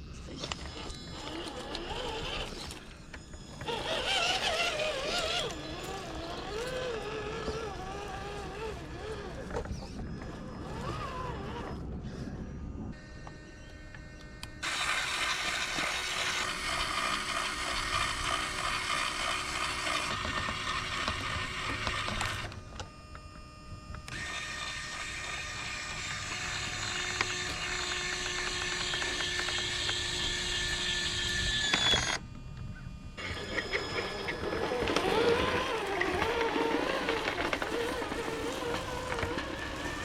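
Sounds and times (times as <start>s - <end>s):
toy truck motor and gears whining: 0.0s - 40.0s.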